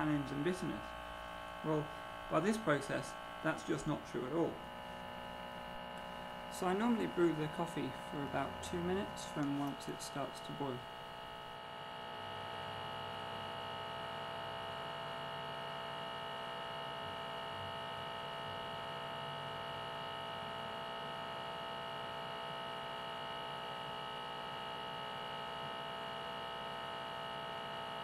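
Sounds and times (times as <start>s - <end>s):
vacuum pump electric hum: 0.0s - 28.0s.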